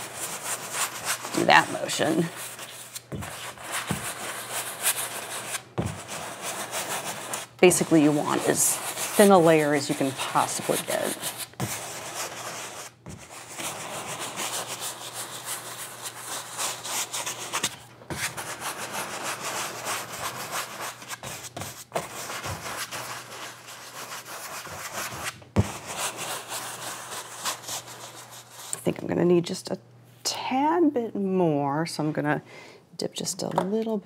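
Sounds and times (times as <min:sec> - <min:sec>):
paint brush rasping on canvas: 0:00.0 - 0:28.8.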